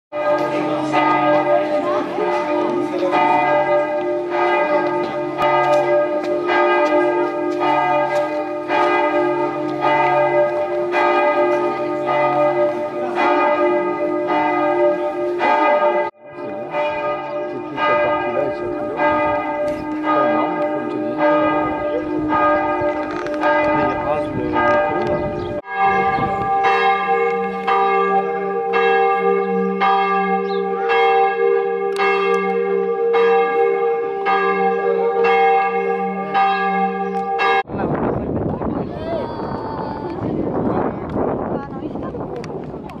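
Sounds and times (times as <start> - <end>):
church bell ringing: 0.1 - 37.8.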